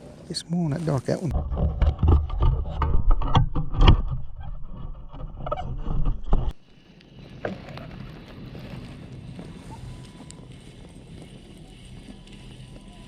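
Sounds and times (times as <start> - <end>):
wind rumble on microphone: 1.3 - 13.0.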